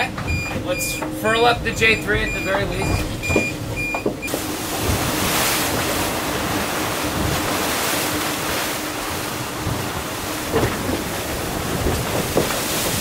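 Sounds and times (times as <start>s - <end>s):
sea water rushing: 0.0s - 13.0s
wind buffeting microphone: 1.3s - 13.0s.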